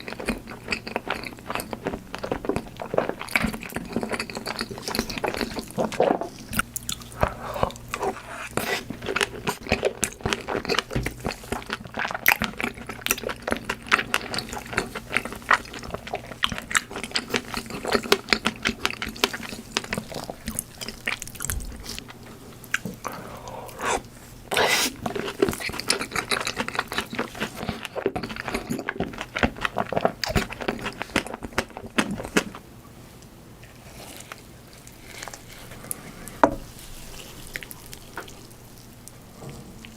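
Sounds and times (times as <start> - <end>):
person chewing with mouth sounds: 0.0 - 32.6.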